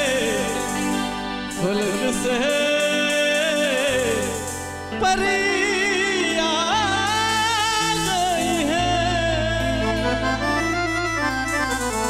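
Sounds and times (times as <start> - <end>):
steady bass notes: 0.0 - 12.0
wavering lead melody: 0.0 - 12.0.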